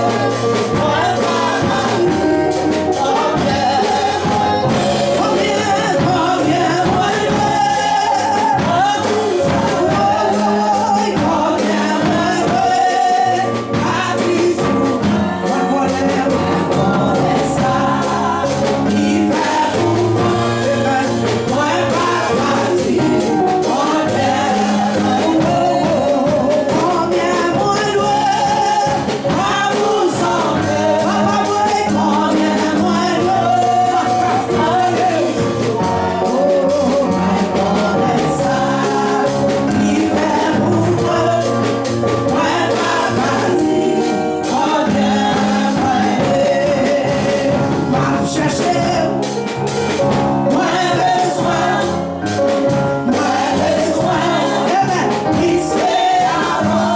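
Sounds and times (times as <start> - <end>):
band with steady drum beat: 0.0 - 56.9
gospel singing: 0.0 - 56.9.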